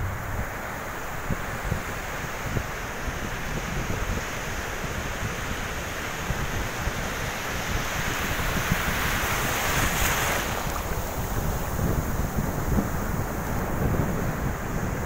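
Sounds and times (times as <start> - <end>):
sea surf washing: 0.0 - 15.0
wind buffeting microphone: 0.0 - 15.0.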